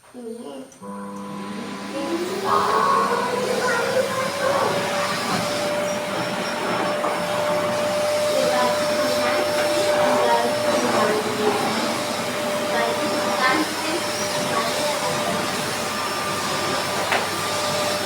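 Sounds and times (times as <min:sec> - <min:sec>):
vacuum cleaner motor whine: 0:00.7 - 0:18.0.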